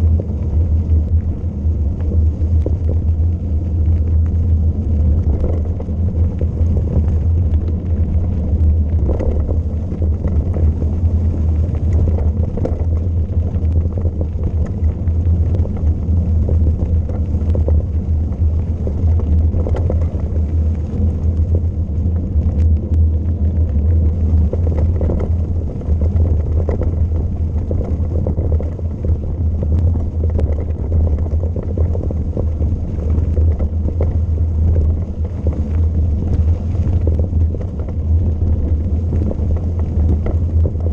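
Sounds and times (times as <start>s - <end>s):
faint light ticks: 0.0s - 40.9s
wind buffeting microphone: 0.0s - 40.9s.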